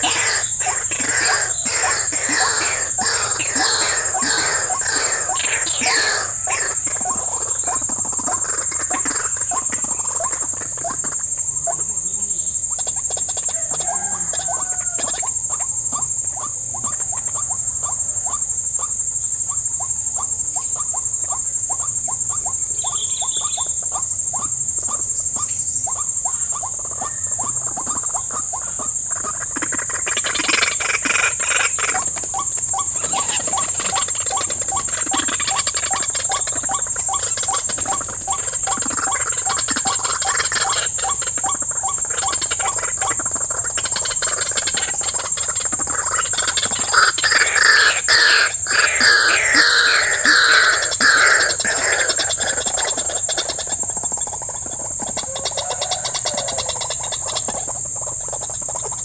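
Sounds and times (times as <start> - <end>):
high drone of insects: 0.0 - 59.0
waterhen calling: 0.0 - 59.0.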